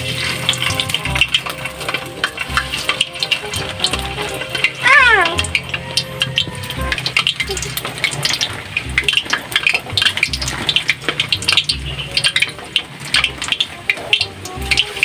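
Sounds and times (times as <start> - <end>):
oil crackling and sizzling: 0.0 - 15.0
oil popping: 0.0 - 15.0.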